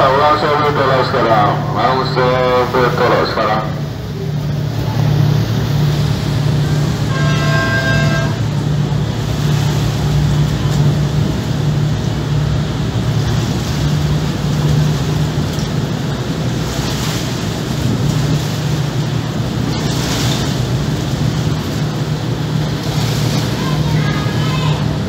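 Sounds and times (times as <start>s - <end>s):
churning water: 0.0s - 25.0s
ferry engines droning: 0.0s - 25.0s
wind: 0.0s - 25.0s.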